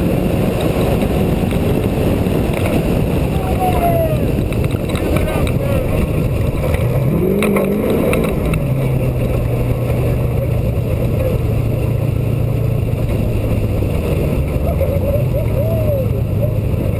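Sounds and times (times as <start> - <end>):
truck engine accelerating: 0.0 - 16.9.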